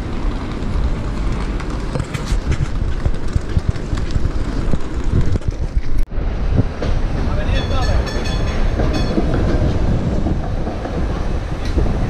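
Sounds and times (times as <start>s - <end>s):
traffic noise with low rumble: 0.0s - 12.0s.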